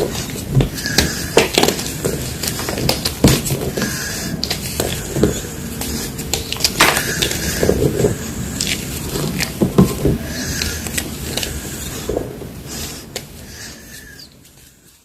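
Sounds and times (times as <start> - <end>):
chalk crunching: 0.1 - 13.8.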